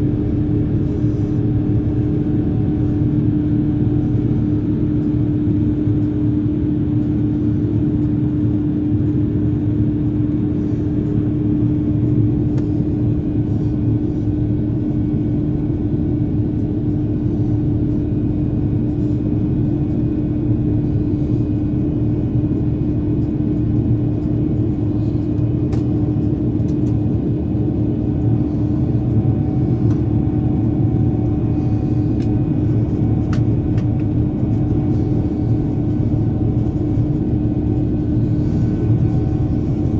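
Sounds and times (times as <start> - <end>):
jet engine and airflow rumble: 0.0 - 39.9
steady cabin hum: 0.0 - 39.9.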